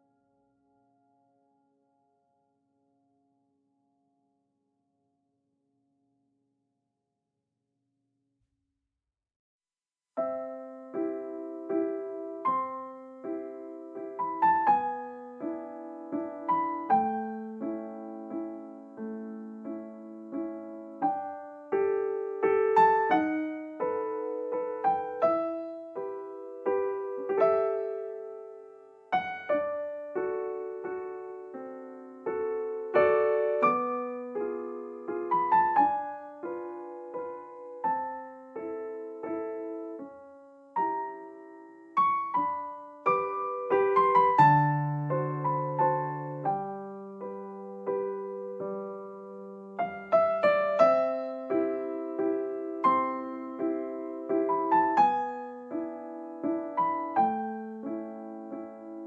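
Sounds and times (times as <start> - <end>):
gentle piano melody: 0.0 - 3.2, 10.2 - 59.0.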